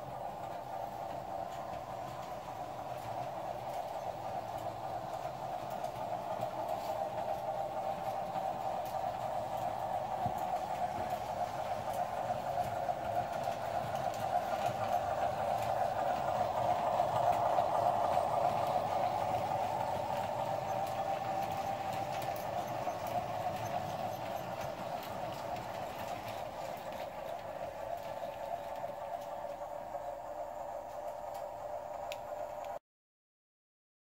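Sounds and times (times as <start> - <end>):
model train running on track: 0.0 - 32.8.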